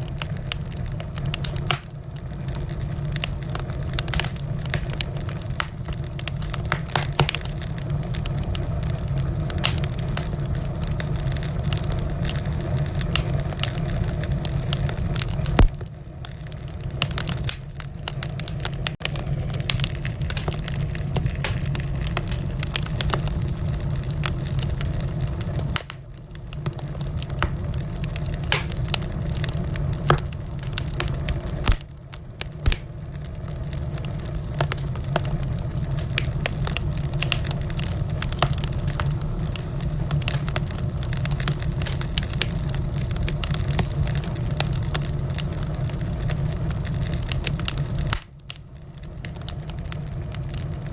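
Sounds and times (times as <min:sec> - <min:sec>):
fire crackling and popping: 0:00.0 - 0:50.9
low rumble of flames: 0:00.0 - 0:50.9.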